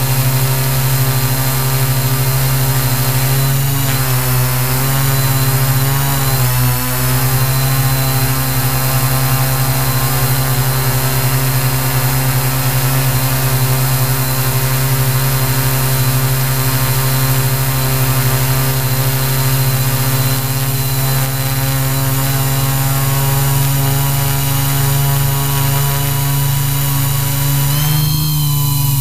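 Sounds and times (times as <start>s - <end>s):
drone motors humming: 0.0s - 29.0s.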